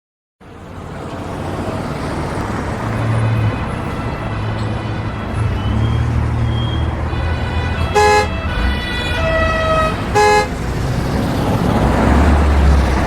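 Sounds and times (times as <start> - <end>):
traffic engines rumbling: 0.4 - 13.0.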